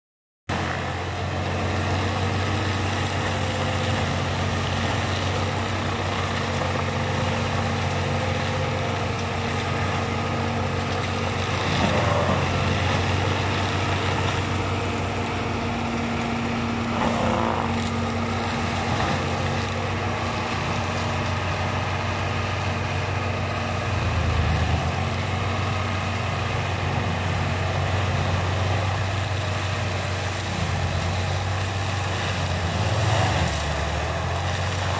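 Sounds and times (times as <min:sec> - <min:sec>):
diesel tractor engine under load: 0:00.5 - 0:34.9
mulcher shredding brush: 0:00.5 - 0:34.9.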